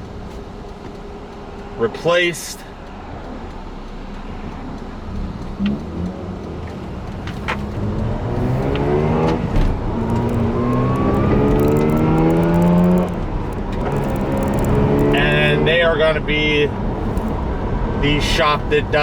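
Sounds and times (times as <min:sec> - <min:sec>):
rotary engine accelerating: 0:02.7 - 0:19.0.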